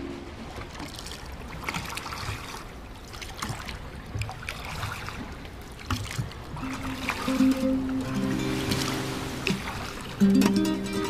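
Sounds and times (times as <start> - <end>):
steady low water wash: 0.0 - 11.0
water lapping and trickling: 0.0 - 11.0.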